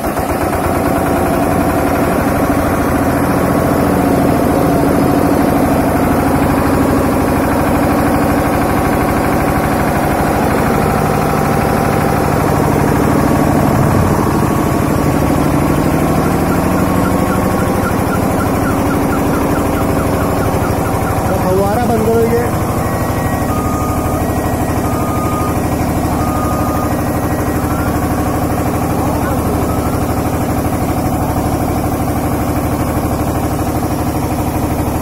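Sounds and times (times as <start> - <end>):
sprayer engine running: 0.0 - 35.0.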